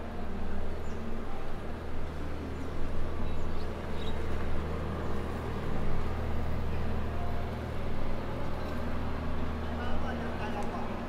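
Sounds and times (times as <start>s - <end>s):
low engine hum: 0.0s - 11.0s
outdoor street noise: 0.0s - 11.0s.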